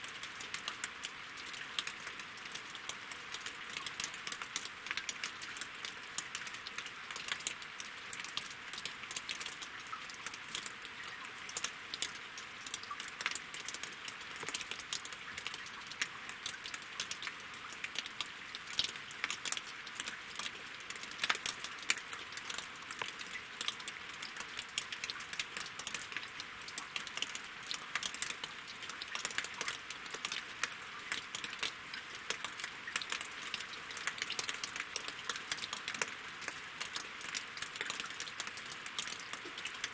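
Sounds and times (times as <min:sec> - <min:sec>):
rain falling on lake and logs: 0:00.0 - 0:39.9.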